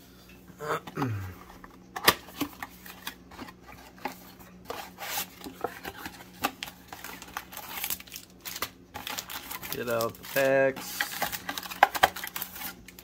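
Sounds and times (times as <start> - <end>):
foil packs rustling: 1.4 - 13.0.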